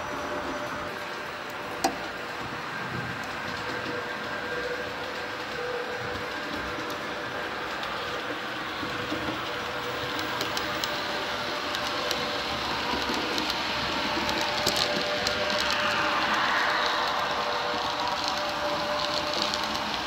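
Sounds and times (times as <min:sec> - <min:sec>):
model train wheels whirring: 0:00.0 - 0:20.0.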